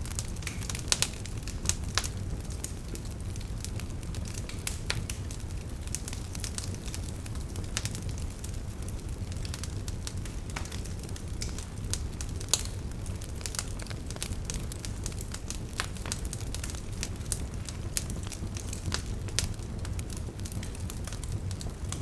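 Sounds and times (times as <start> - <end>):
fire popping and snapping: 0.0 - 22.0
low rumble of flames: 0.0 - 22.0.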